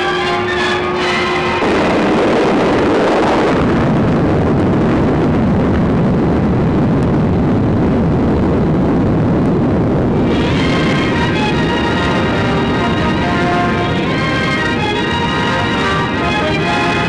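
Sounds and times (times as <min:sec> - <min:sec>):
explosion low rumble: 0:01.4 - 0:16.3.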